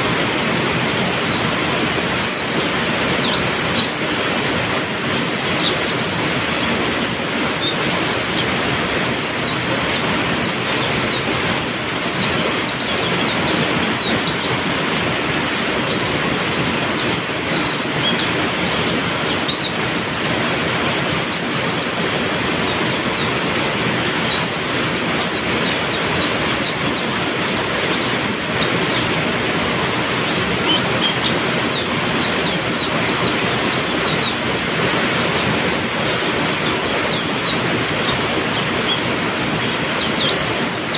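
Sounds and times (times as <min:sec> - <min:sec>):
heavy rain falling: 0:00.0 - 0:40.9
songbirds chirping: 0:00.0 - 0:40.9.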